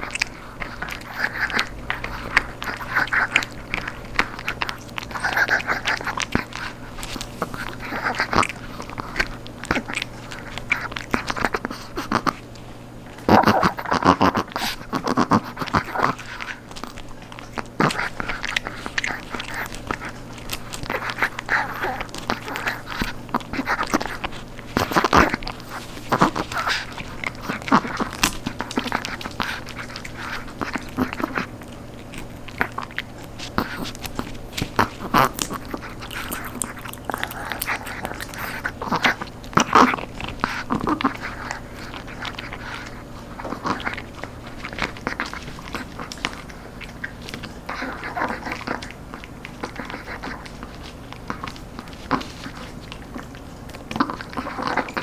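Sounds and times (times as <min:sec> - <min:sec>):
dog crunching a treat: 0:00.0 - 0:55.0.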